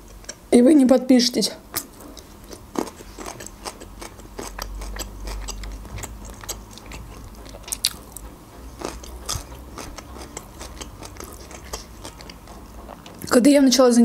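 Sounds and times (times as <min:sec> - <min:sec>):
chewing and crunching gherkin: 0:01.7 - 0:13.4.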